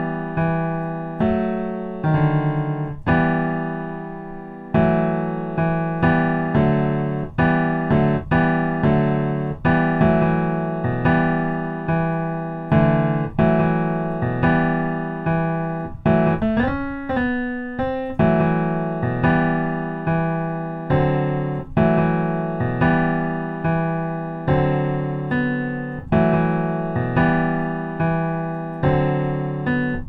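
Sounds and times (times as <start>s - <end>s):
piano chords: 0.0s - 30.0s.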